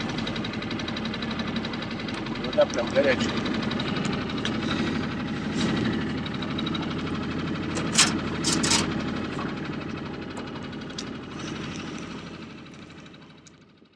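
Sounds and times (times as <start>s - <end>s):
boat motor running: 0.0s - 13.9s.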